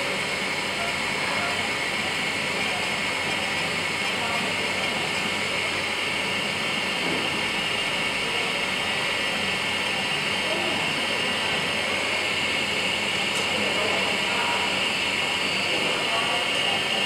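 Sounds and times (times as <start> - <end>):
milling machine spindle hiss: 0.0 - 17.0.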